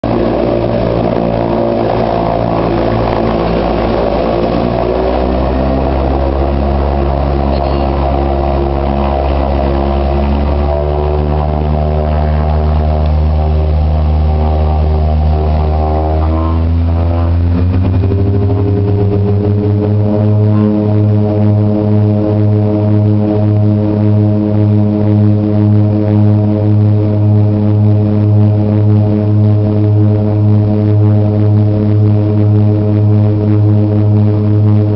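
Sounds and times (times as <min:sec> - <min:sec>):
turboprop propeller drone: 0:00.0 - 0:34.9.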